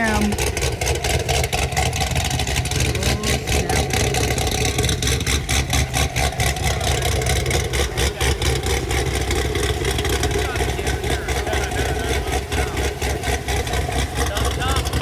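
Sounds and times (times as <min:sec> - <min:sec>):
engine with choppy exhaust note: 0:00.0 - 0:15.0.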